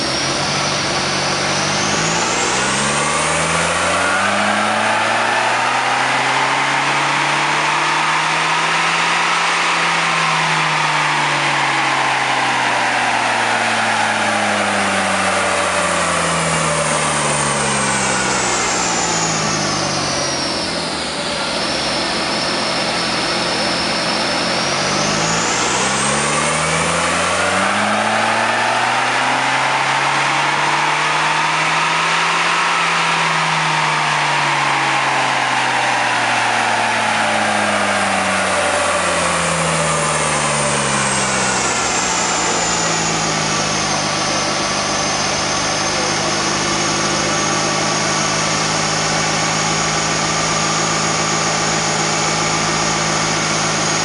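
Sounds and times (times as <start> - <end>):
car engine revving under load: 0.0 - 54.0
high whine: 0.0 - 54.0.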